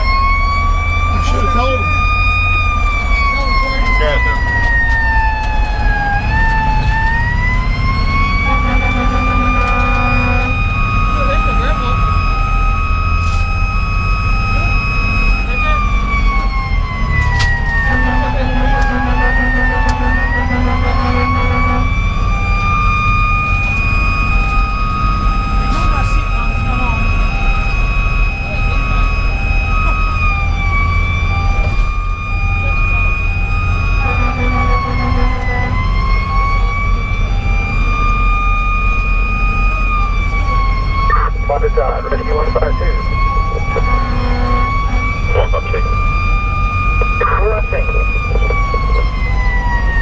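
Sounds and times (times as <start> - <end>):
heavy diesel engine rumbling: 0.0 - 50.0
mechanical siren wailing: 0.0 - 50.0
road noise: 0.0 - 50.0.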